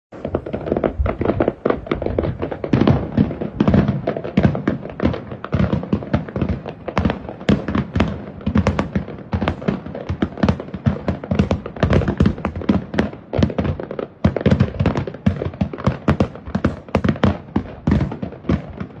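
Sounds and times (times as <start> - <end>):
fireworks bangs and crackles: 0.1 - 19.0.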